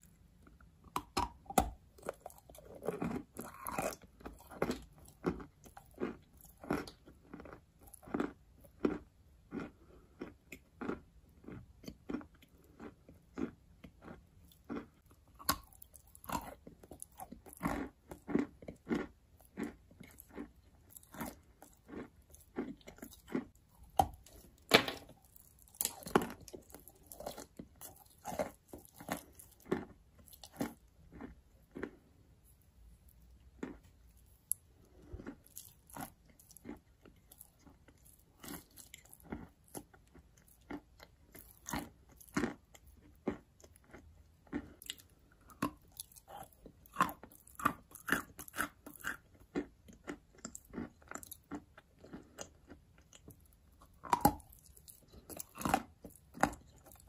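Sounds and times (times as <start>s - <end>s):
grinding chews: 0.0s - 32.1s, 33.2s - 57.0s.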